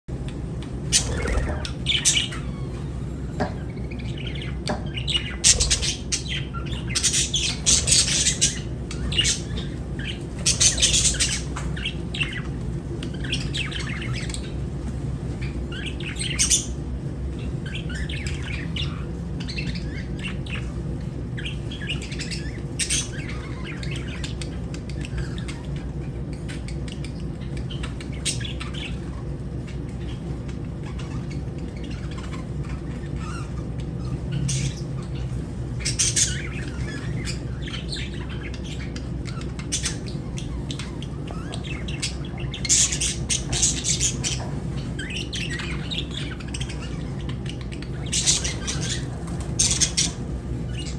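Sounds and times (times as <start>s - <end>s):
steady low hum: 0.1s - 50.9s
birds chirping shrilly: 0.4s - 50.9s.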